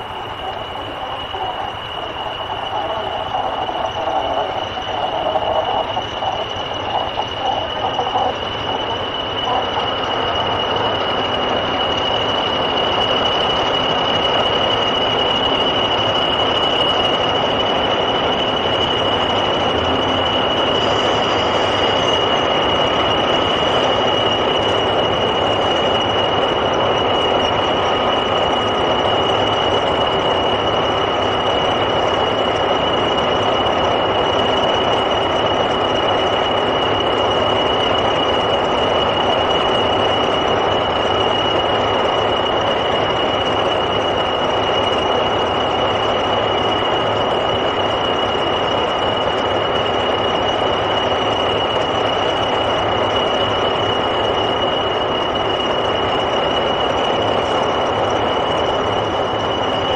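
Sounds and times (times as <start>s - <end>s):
diesel locomotive running: 0.0s - 59.9s
steady high-pitched whistle: 0.0s - 59.9s.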